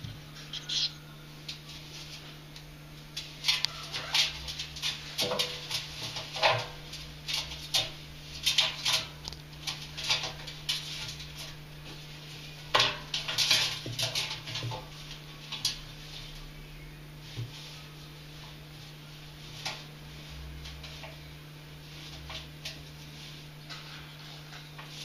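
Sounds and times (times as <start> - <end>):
ferrets scuffling: 0.0 - 25.0.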